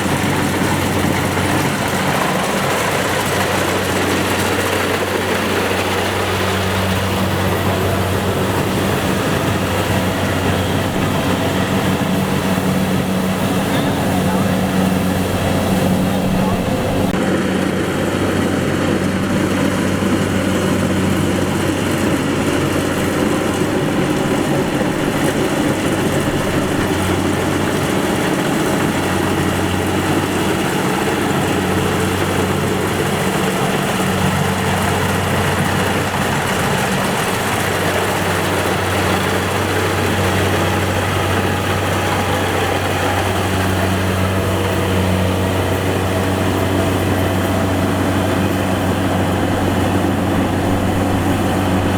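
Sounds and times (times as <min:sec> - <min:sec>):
combine harvester running: 0:00.0 - 0:51.9.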